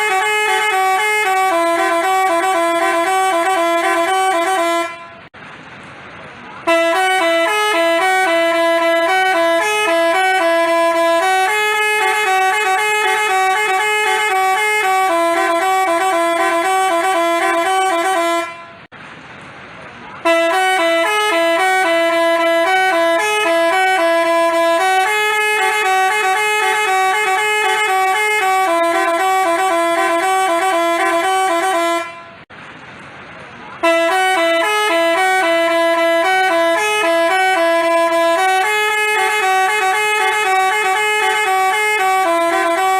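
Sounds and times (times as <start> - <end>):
musical bus horn playing a tune: 0.0 - 5.3, 6.6 - 18.9, 20.2 - 32.5, 33.8 - 42.9.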